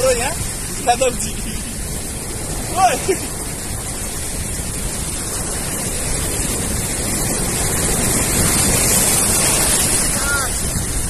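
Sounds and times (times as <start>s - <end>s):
surf rushing onto beach: 0.0s - 11.0s
wind buffeting microphone: 0.0s - 11.0s.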